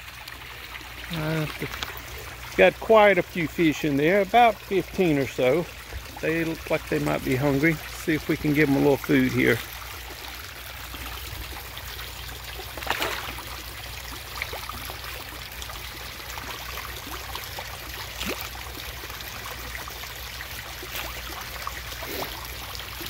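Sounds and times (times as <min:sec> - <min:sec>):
fountain water splashing: 0:00.0 - 0:23.0
sharp sounds at water surface: 0:00.0 - 0:23.0.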